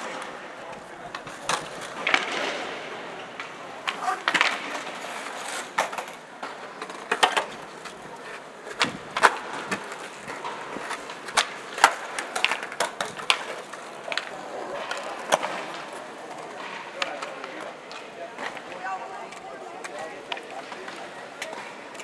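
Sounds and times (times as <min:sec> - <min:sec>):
skateboard tails clacking: 0:00.0 - 0:22.0
skateboard wheels rolling on stone: 0:00.0 - 0:22.0.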